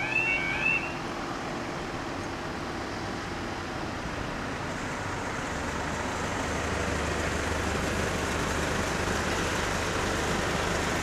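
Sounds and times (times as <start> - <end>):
low engine rumble: 0.0 - 11.0
road traffic noise: 0.0 - 11.0.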